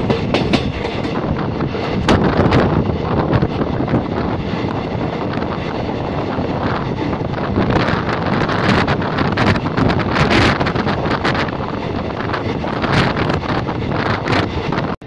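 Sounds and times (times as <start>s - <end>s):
train coach rumbling: 0.0s - 15.0s
wheel and rail clatter: 0.0s - 15.0s
wind buffeting microphone: 0.0s - 15.0s.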